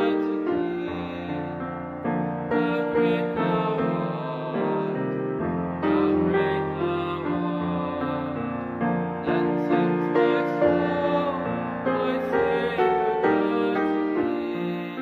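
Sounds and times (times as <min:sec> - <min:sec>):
gentle keyboard music: 0:00.0 - 0:15.0.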